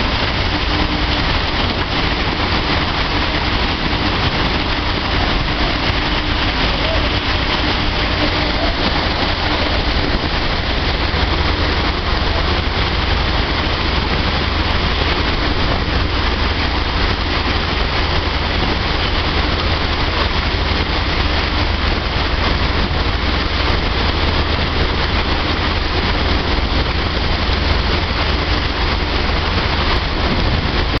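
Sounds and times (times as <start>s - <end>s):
dryer running: 0.0s - 31.0s.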